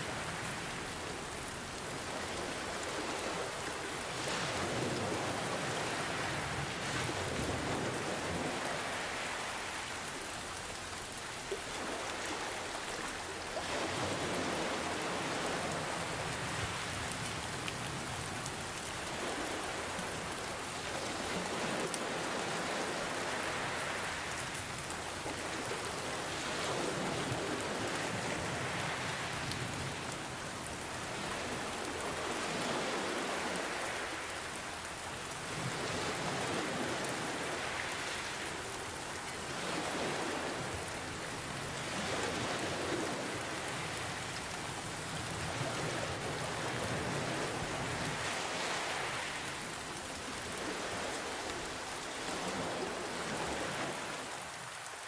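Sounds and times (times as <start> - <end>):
gentle ocean waves: 0.0 - 55.0
rain pattering: 0.0 - 55.0.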